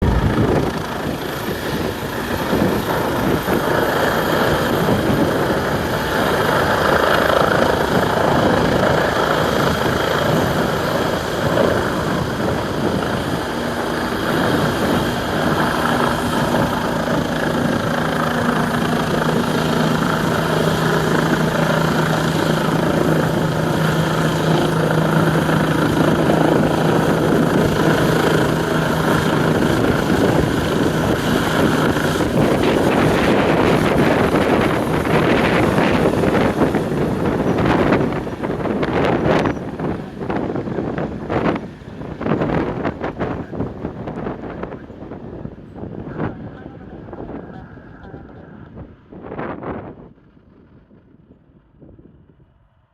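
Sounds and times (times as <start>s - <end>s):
helicopter rotor chop: 0.0s - 51.1s.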